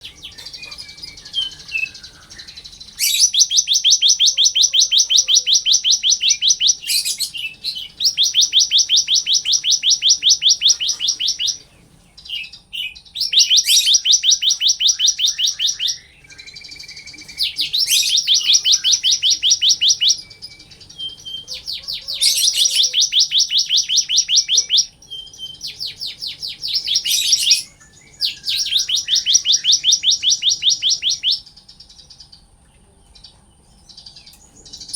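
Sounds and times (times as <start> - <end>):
bird singing trills: 0.0 - 34.9.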